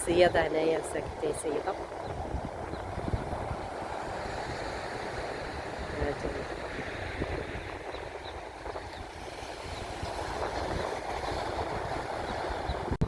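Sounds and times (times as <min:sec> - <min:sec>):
sea surf washing on shore: 0:00.0 - 0:13.0
wind rumbling on microphone: 0:00.0 - 0:13.0.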